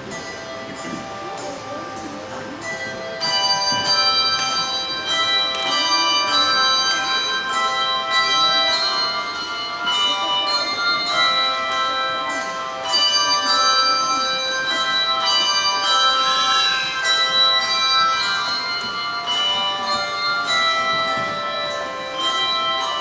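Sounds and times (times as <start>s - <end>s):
handbell choir playing: 0.0s - 23.0s.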